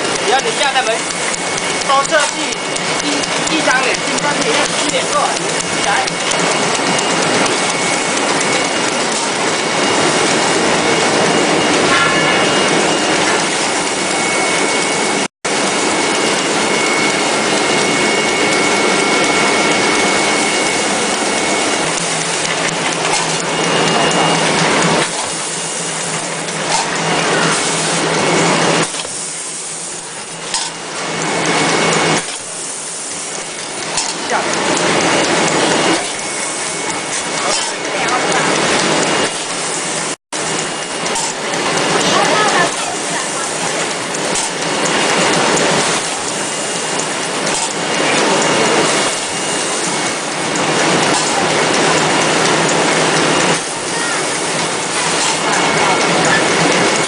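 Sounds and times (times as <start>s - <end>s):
tissue folding machine running: 0.0s - 57.0s.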